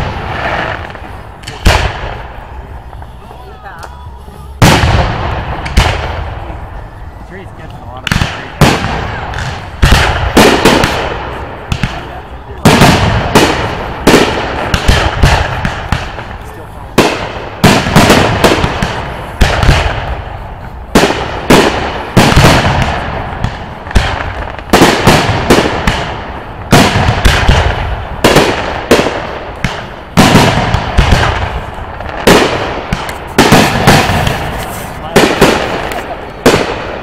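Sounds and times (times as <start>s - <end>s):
firework bangs: 0.0s - 37.0s.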